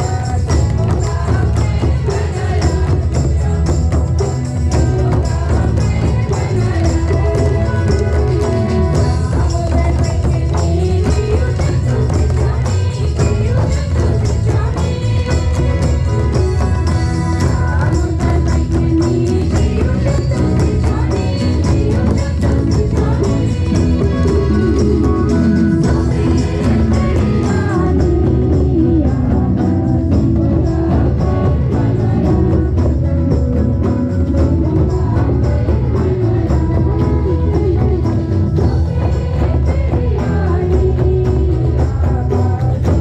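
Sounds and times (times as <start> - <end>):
barrel drums beat: 0.0 - 43.0
electronic drum pad: 0.0 - 43.0.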